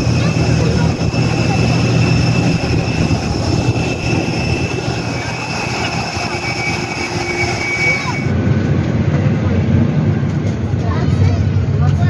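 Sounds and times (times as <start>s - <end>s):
broad jet rumble: 0.0s - 12.0s
jet engine whine: 0.0s - 12.0s.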